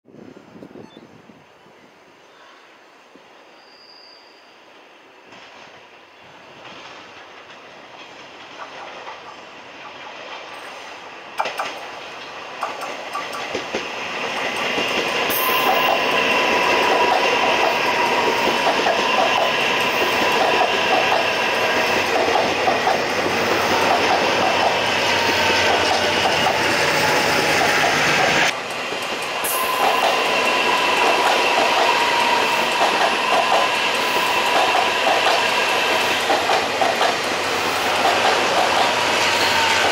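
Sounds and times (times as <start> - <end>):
train rumbling past: 0.1 - 39.9
wheel clatter over rail joints: 6.5 - 10.7, 11.4 - 39.9.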